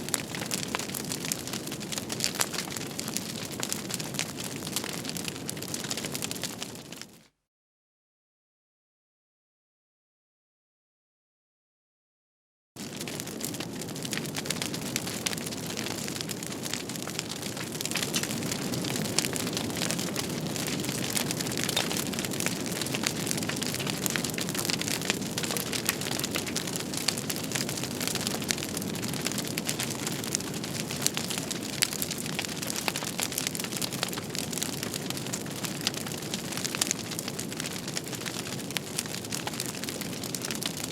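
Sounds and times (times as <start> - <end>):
wood fire crackling: 0.0 - 7.2, 12.8 - 40.9.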